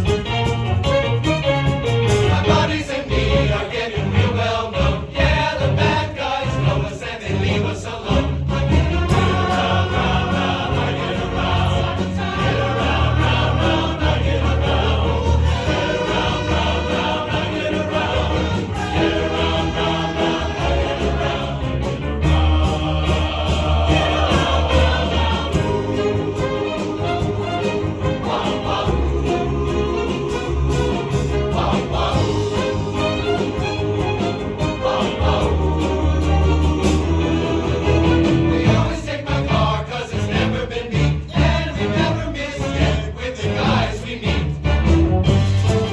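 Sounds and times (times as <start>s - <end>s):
instrumental accompaniment: 0.0s - 6.8s, 7.4s - 45.9s
men's chorus singing in harmony: 2.3s - 45.1s.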